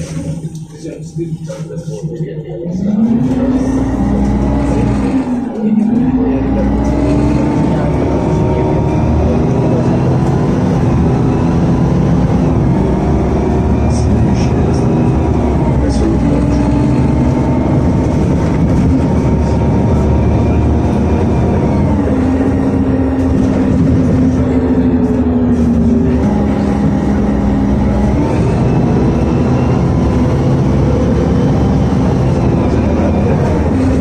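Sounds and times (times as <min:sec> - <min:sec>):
bus engine droning: 0:00.0 - 0:34.0
road noise: 0:00.0 - 0:34.0.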